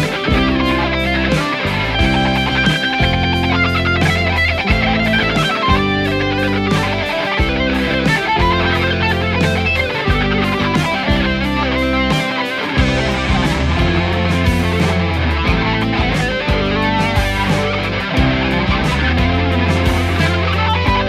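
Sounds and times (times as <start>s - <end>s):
electric guitar: 0.0s - 21.0s
rock backing track: 0.0s - 21.0s.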